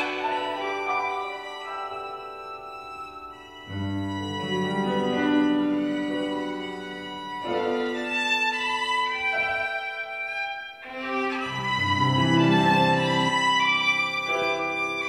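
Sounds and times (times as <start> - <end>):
grand piano chords: 0.0 - 15.0
violin long held notes: 0.0 - 15.0.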